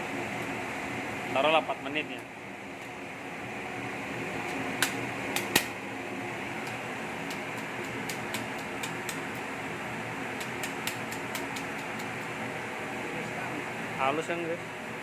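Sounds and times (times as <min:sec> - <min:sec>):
kitchen fan or burner noise: 0:00.0 - 0:15.0.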